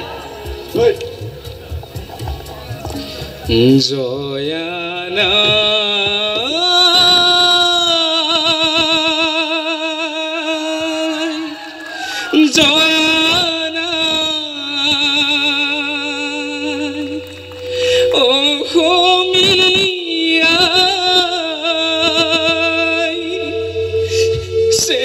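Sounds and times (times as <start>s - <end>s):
person singing slow song: 3.0s - 25.0s.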